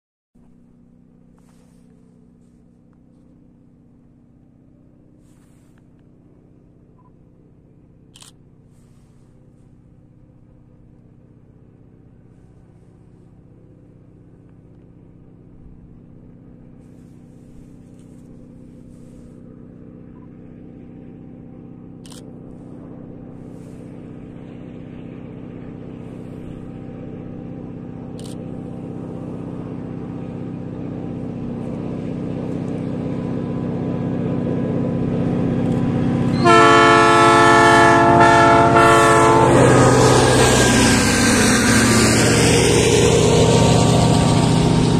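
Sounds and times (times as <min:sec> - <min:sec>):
diesel locomotive engine drone: 0:00.4 - 0:44.9.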